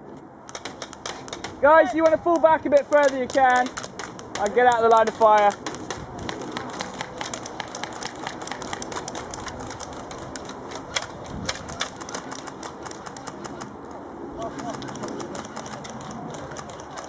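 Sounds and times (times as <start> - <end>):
airsoft guns firing: 0.4 - 13.7, 14.4 - 17.0.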